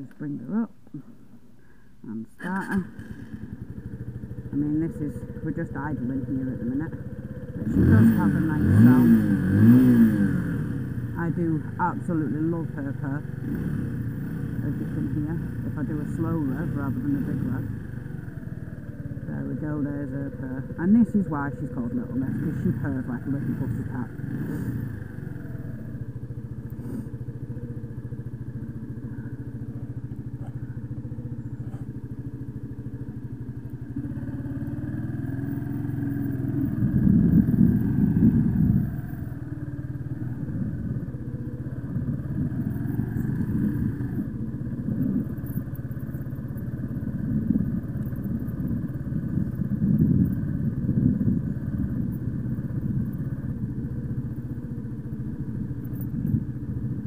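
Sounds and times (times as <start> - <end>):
motorbike engine idling and revving: 0.0 - 57.0.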